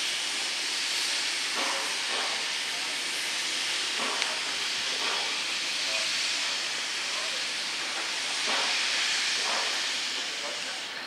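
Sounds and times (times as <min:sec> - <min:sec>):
steam locomotive venting steam: 0:00.0 - 0:11.0.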